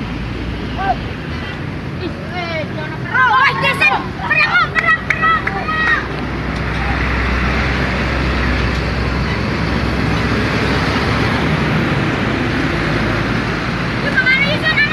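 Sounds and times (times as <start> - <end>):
bus engine rumble: 0.0 - 14.9
road and tyre noise: 0.0 - 14.9.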